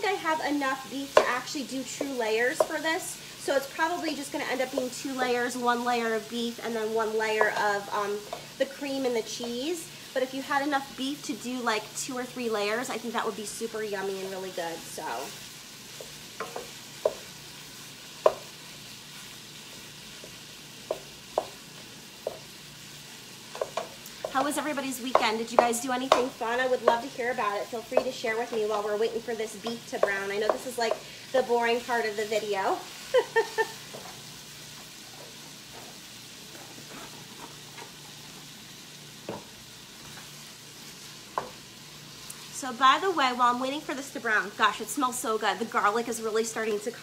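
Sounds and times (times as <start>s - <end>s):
meat sizzling in a skillet: 0.0s - 47.0s.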